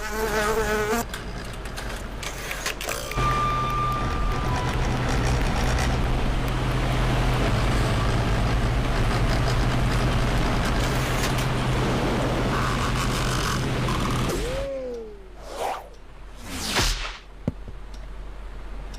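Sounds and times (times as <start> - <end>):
engine humming: 1.0 - 16.6.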